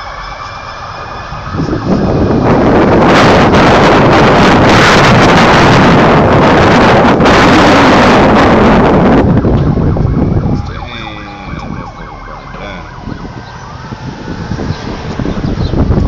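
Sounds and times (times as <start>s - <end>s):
emergency siren wailing: 0.0s - 16.0s
street noise: 0.0s - 16.0s
wind buffeting microphone: 0.3s - 16.0s.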